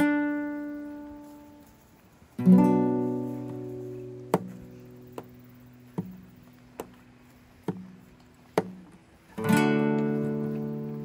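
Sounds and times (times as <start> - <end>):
acoustic guitar: 0.0 - 11.0.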